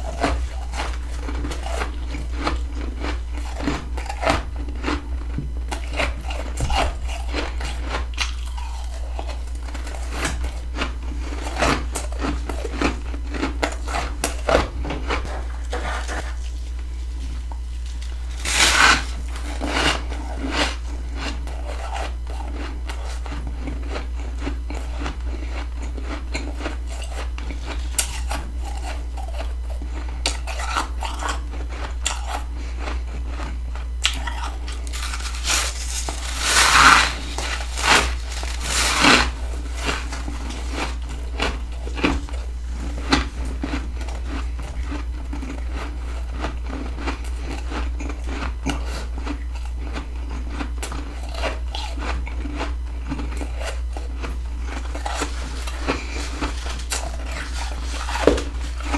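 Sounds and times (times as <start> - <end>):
frost crunching being chewed: 0.0 - 58.9.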